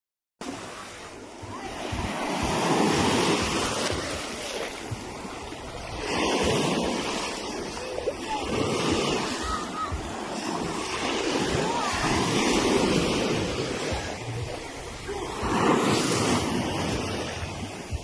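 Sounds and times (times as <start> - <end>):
waves washing onto shore: 0.4 - 18.0.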